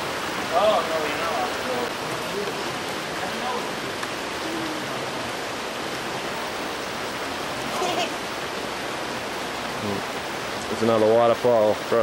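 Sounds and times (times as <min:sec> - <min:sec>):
waterfall and creek rushing: 0:00.0 - 0:12.0.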